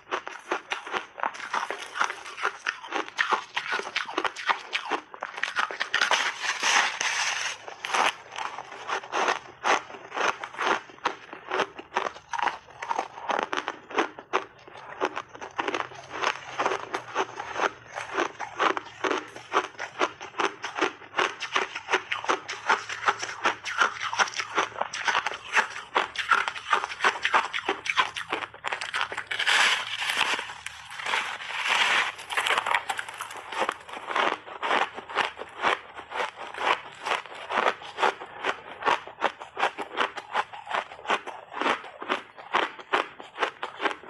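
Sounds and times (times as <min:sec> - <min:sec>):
ice being chewed crunching: 0:00.0 - 0:44.0.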